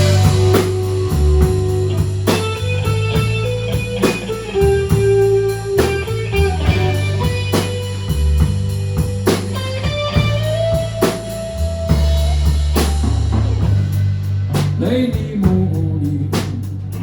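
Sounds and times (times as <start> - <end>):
bass line: 0.0 - 17.0
electric guitar phrases: 0.0 - 17.0.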